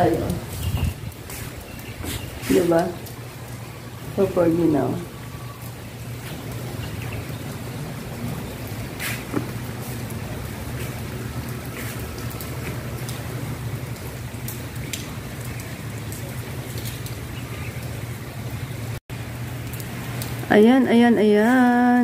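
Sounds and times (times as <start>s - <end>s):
rain falling on wet tiles: 0.0s - 22.0s
scattered drips: 0.0s - 22.0s.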